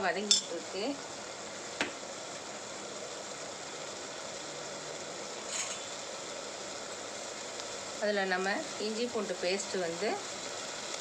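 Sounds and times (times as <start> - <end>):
onions and tomatoes sizzling: 0.0 - 11.0.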